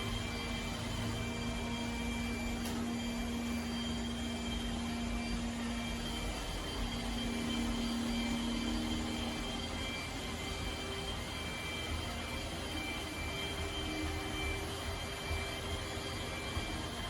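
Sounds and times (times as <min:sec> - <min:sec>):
robot vacuum whirring: 0:00.0 - 0:17.0.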